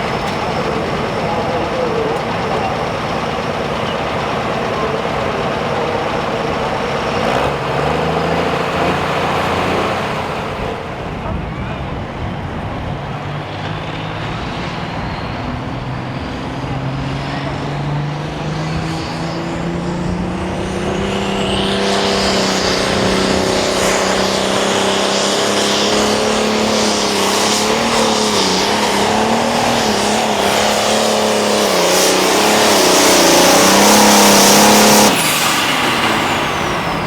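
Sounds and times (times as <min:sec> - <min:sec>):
pulling tractor diesel engine roaring: 0:00.0 - 0:37.0.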